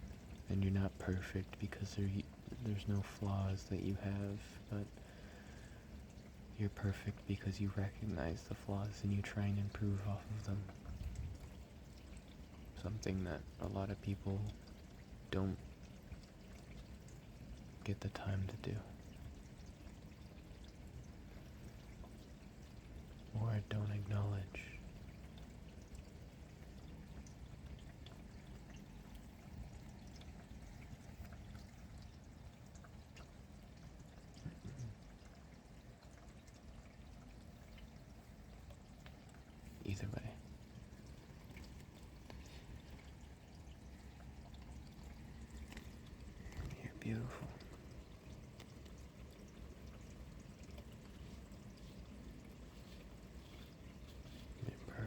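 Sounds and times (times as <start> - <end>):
drops ticking: 0.0 - 55.0
steady rain falling: 0.0 - 55.0.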